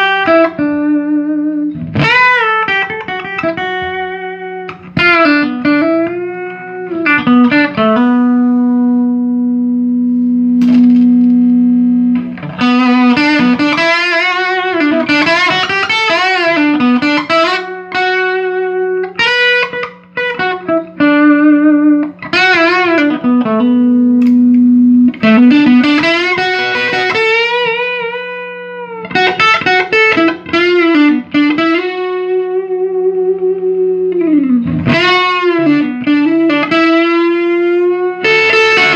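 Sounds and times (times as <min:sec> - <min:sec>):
electric guitar lead lines: 0:00.0 - 0:38.9.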